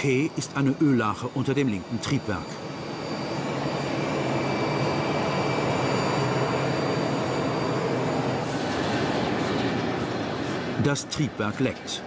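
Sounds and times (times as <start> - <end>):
jet turbine noise: 0.0 - 12.0.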